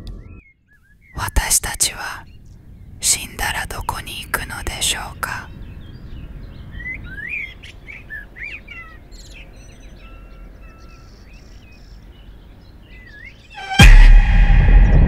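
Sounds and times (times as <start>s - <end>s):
songbirds chirping: 0.0s - 13.6s.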